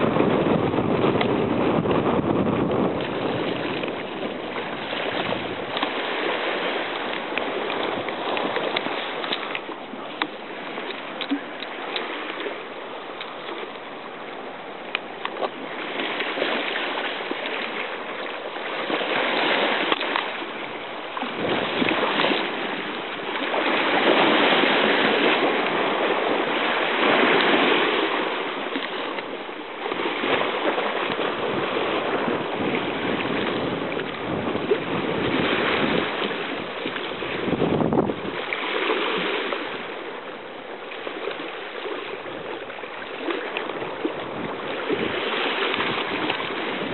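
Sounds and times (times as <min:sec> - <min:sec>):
waves splashing over rocks: 0:00.0 - 0:46.9.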